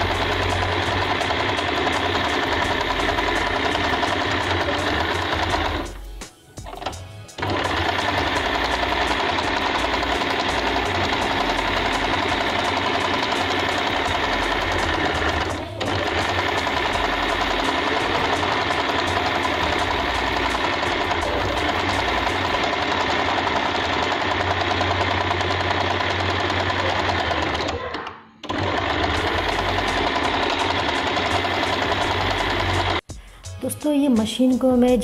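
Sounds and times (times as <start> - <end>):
electric sewing machine running: 0.0 - 6.0, 6.6 - 33.0.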